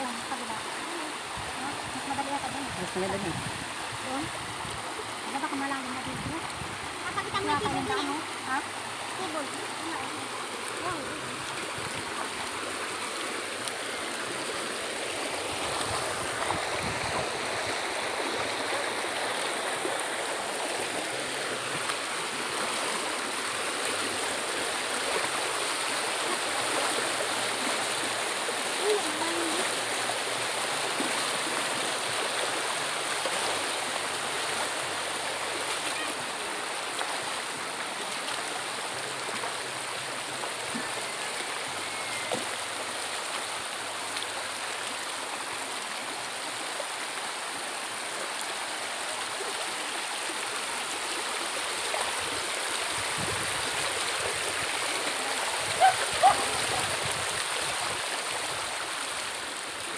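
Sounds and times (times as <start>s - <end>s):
river running over stones: 0.0s - 59.9s.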